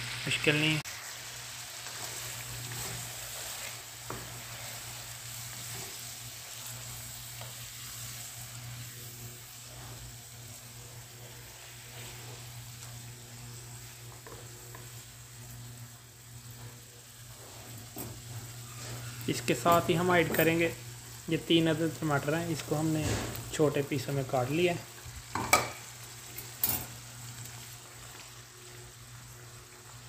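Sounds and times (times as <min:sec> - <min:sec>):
food sizzling in a wok: 0:00.0 - 0:30.0.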